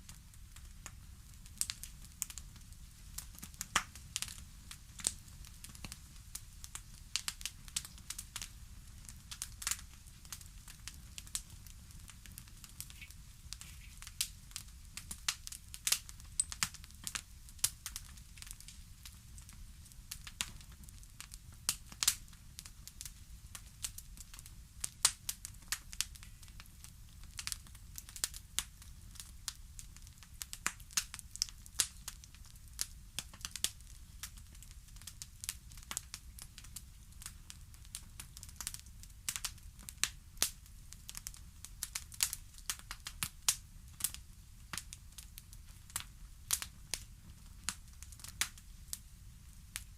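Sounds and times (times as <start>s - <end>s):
fire crackling: 0.0s - 49.9s.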